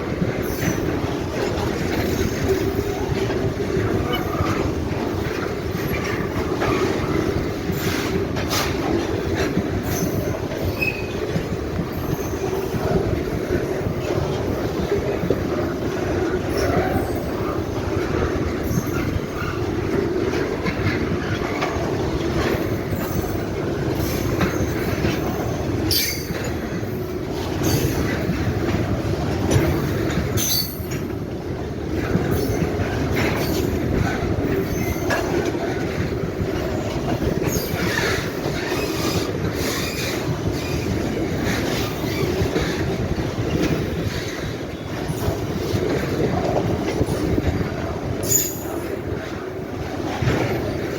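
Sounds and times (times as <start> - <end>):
steel wheels rumbling on rails: 0.0 - 50.9.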